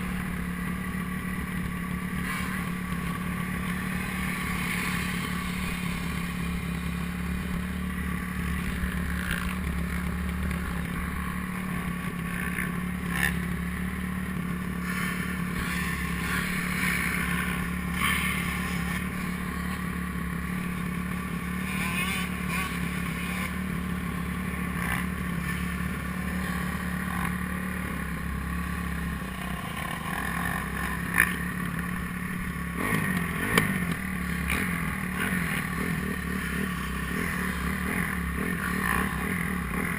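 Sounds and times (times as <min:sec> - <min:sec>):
motorcycle engines running: 0:00.0 - 0:39.9.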